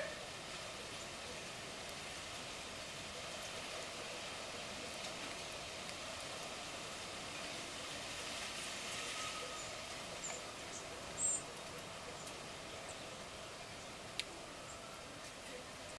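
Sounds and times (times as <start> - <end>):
background hiss: 0.0 - 15.9.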